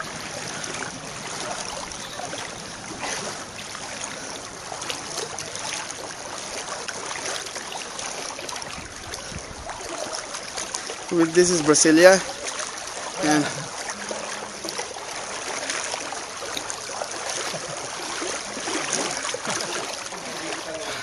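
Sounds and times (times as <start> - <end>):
water sloshing around wading legs: 0.0 - 21.0.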